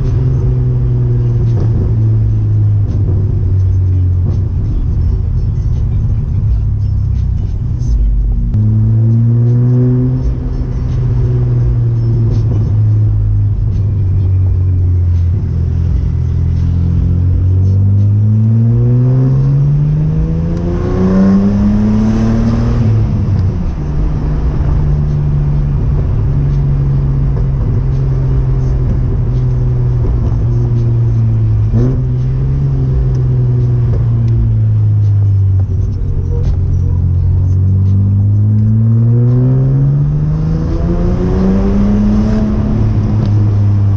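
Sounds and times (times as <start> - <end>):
car engine revving while driving: 0.0 - 43.9.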